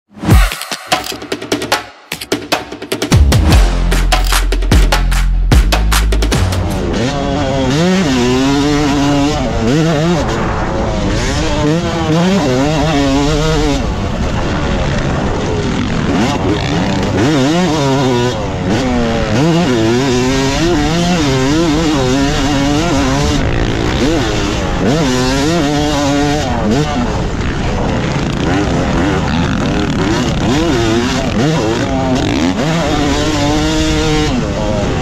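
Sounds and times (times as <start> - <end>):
two-stroke motocross bike engine revving: 6.3 - 35.0.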